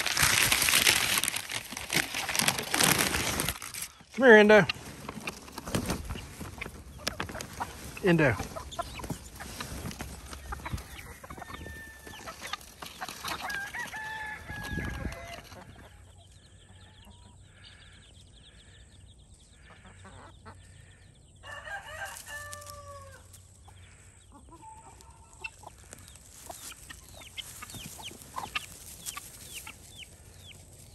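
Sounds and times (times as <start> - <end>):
chickens clucking: 0.1 - 30.9.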